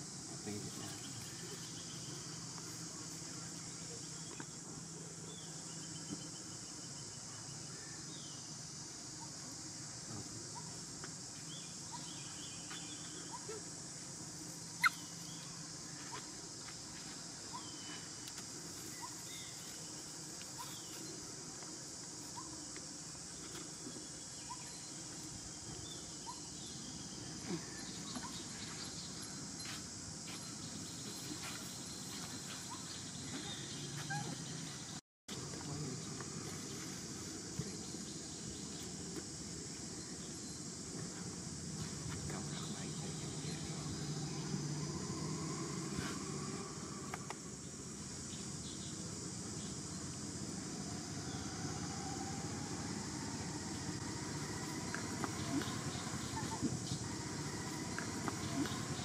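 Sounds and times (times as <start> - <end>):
steady high hiss: 0.0 - 59.0.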